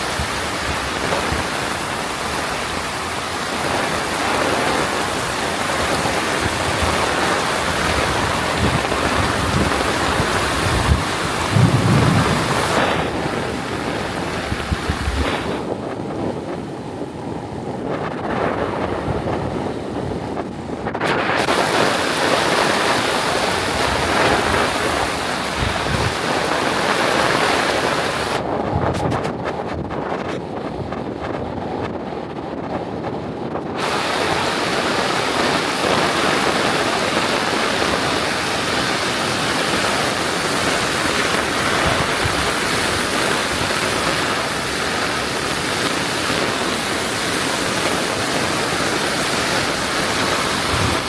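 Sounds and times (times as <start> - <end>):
heavy rain pouring: 0.0 - 16.0, 21.0 - 29.2, 33.7 - 51.0
wind buffeting microphone: 0.0 - 51.0.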